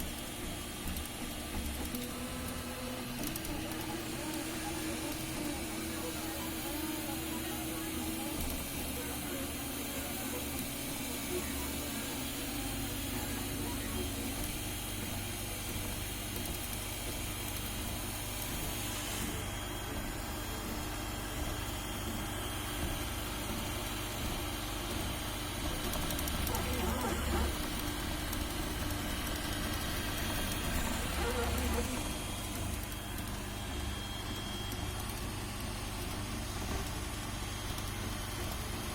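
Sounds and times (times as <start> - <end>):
printer mechanical hum and whir: 0.0 - 38.9.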